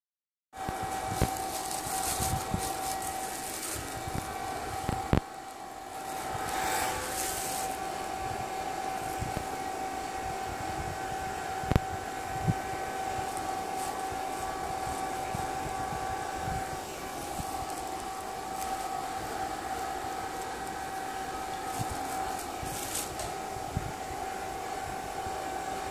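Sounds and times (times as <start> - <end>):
blower motor whining: 0.6 - 25.9
rushing air: 0.7 - 24.4.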